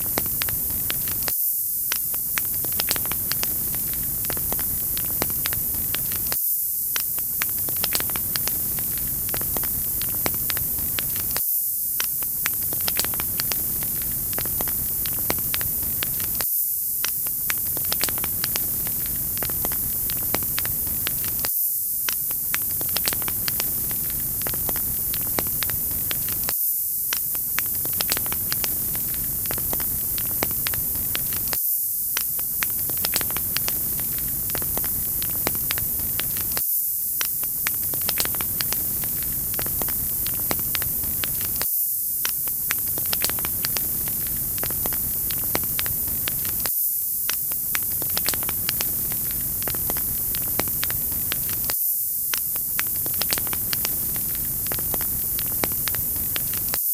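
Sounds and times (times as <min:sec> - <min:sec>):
wood fire crackling: 0:00.0 - 0:01.3, 0:02.0 - 0:11.4, 0:12.0 - 0:16.4, 0:17.0 - 0:26.5, 0:27.1 - 0:36.6, 0:37.2 - 0:41.6, 0:42.2 - 0:56.8.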